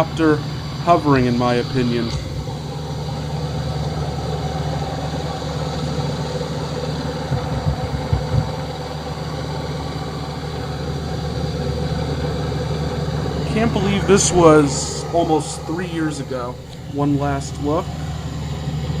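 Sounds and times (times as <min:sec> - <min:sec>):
heat pump humming and chopping: 0:00.0 - 0:19.0.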